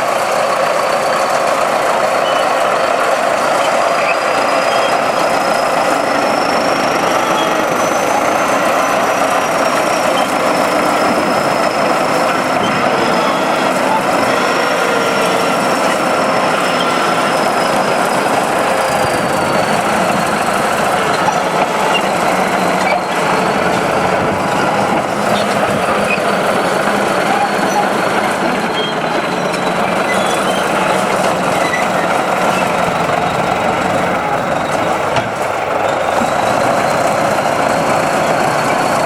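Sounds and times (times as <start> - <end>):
heavy diesel machine running: 0.0 - 39.0.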